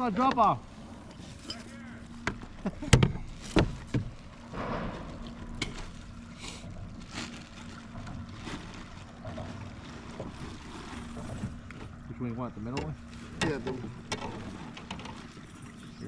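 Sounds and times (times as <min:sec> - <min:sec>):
faint wind: 0:00.0 - 0:16.0
water noise: 0:00.0 - 0:16.0.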